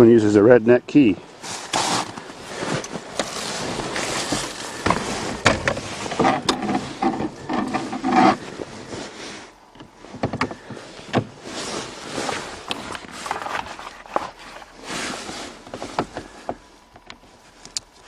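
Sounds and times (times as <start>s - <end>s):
rustling: 1.2s - 18.0s.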